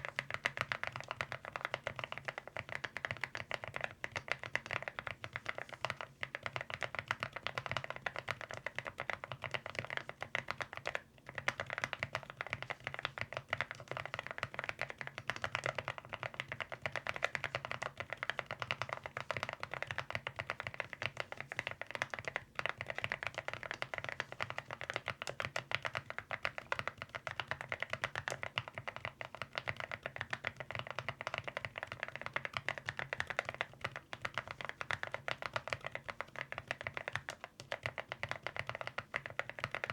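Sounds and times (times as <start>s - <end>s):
mechanical keyboard typing: 0.1s - 39.9s.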